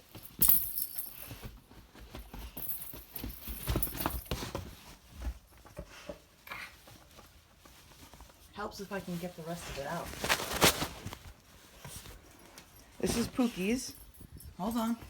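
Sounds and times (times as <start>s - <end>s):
crinkly rustle: 0.0s - 15.0s
soft knocks and rustling: 0.0s - 15.0s.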